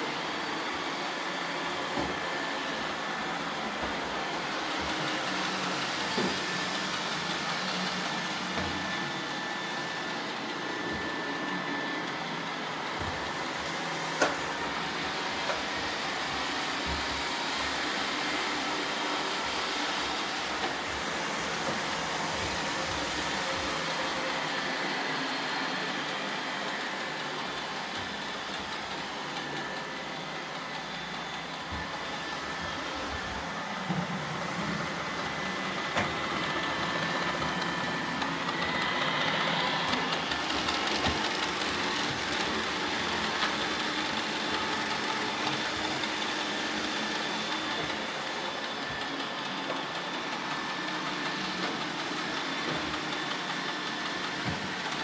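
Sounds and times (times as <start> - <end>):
robot vacuum motor whir: 0.0 - 55.0.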